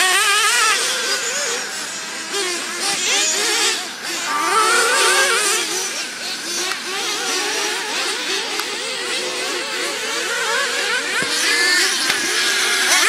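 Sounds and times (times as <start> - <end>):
small nitro engines revving: 0.0 - 13.0.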